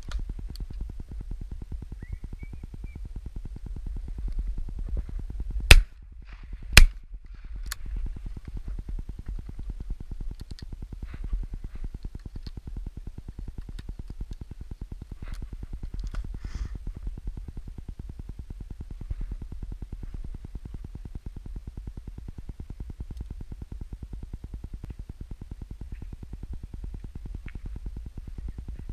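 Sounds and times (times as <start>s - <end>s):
wind rumbling on microphone: 0.0s - 28.9s.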